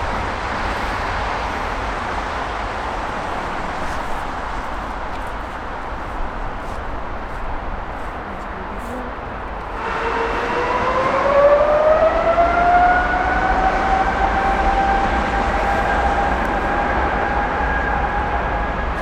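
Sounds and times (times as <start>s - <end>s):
jet engine whine: 0.0s - 19.0s
jet engines roaring: 0.0s - 19.0s.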